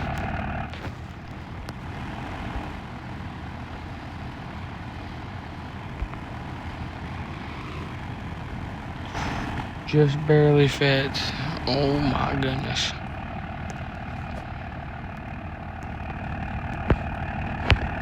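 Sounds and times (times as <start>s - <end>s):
pickup truck engine idling: 0.0s - 18.0s.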